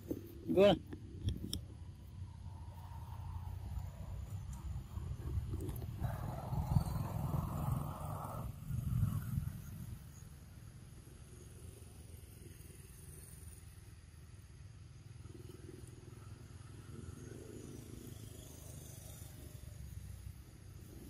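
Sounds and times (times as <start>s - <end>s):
faint low outdoor rumble: 0.0s - 21.0s.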